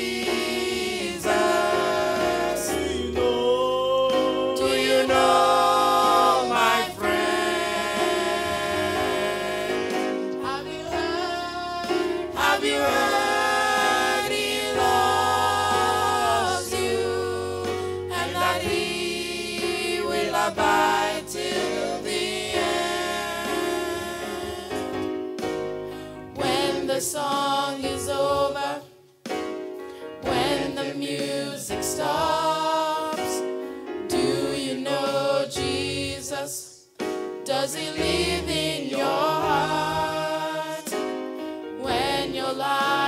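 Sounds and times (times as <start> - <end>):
gospel group singing in harmony: 0.0 - 43.0.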